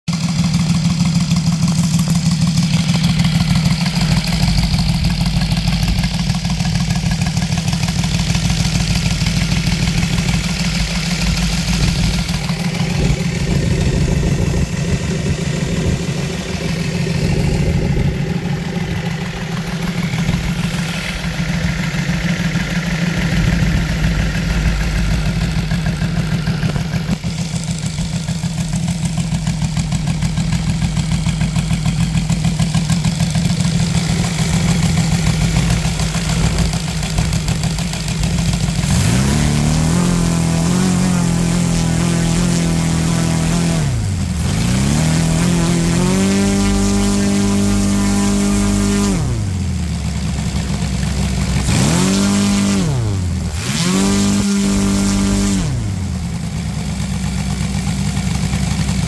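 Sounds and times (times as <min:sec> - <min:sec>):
model aircraft engine running: 0:00.1 - 0:59.0.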